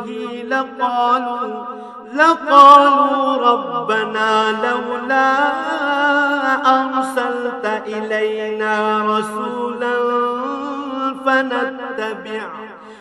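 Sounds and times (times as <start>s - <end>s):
man chanting melodically: 0.0s - 12.8s.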